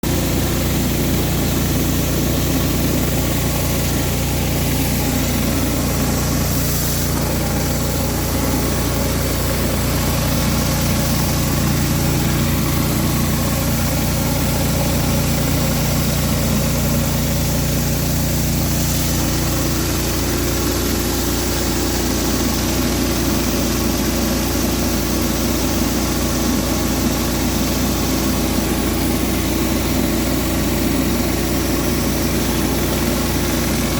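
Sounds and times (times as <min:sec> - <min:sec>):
pressure washer engine: 0:00.0 - 0:33.9
water spray hiss: 0:00.2 - 0:33.9.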